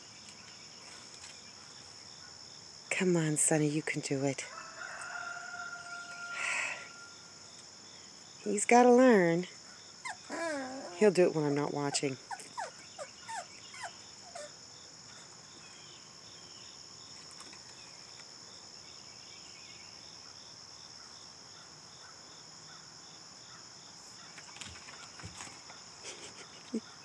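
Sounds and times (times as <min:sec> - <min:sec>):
insect chorus chirping: 0:00.0 - 0:27.0.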